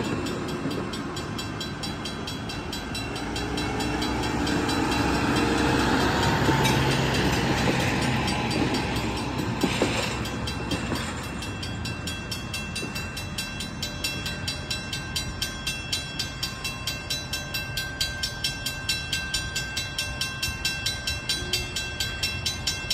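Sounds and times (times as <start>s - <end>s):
rail machine rumbling: 0.0s - 22.9s.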